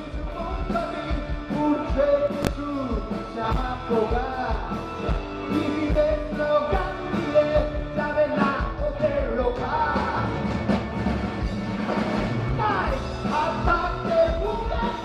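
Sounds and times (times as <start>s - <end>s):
person singing: 0.0s - 10.5s, 12.5s - 15.0s
drums beat: 0.0s - 15.0s
live rock band: 0.0s - 15.0s.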